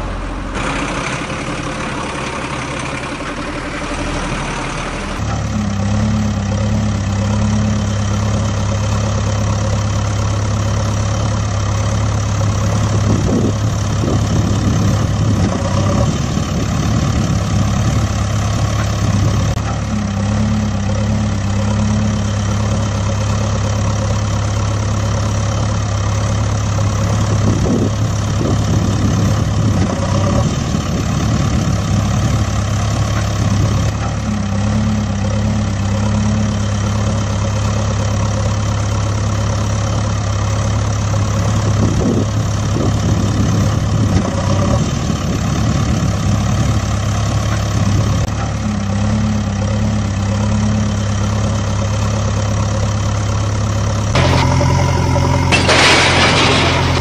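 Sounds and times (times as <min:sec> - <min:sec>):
heavy engine idling: 0:00.0 - 0:57.0.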